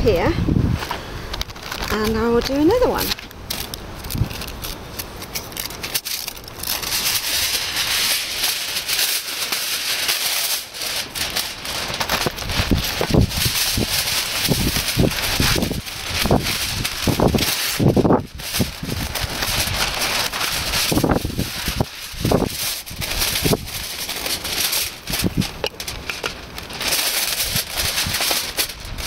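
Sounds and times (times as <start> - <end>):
aluminium foil crinkling: 0.0 - 29.0
paper unrolled rustling: 0.8 - 29.0.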